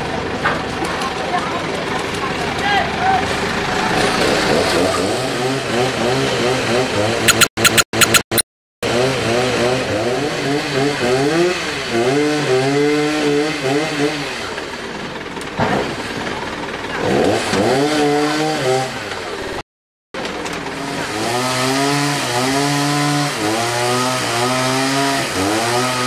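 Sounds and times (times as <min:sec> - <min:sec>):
chainsaw revving: 0:02.2 - 0:08.2, 0:08.8 - 0:15.0, 0:15.8 - 0:19.3, 0:20.6 - 0:26.0.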